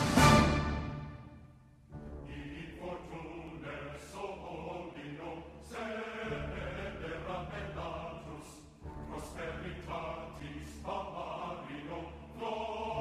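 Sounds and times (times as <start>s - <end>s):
choir singing chant-like lines: 2.2s - 13.0s.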